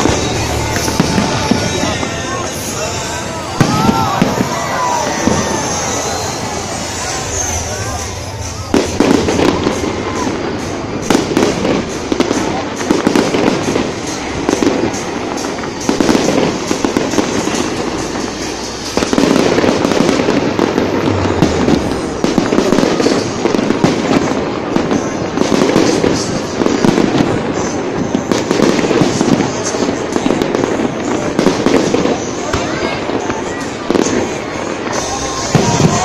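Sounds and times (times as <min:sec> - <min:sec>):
fireworks shells bursting: 0:00.0 - 0:36.0.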